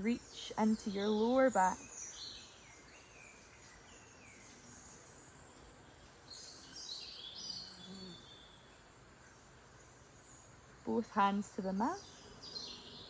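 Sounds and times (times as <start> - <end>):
faint outdoor background: 0.0 - 13.0
wild birds singing: 0.0 - 13.0.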